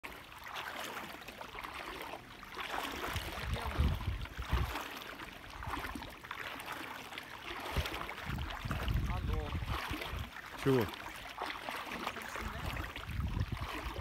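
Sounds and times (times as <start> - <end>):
water lapping and splashing: 0.0 - 14.0.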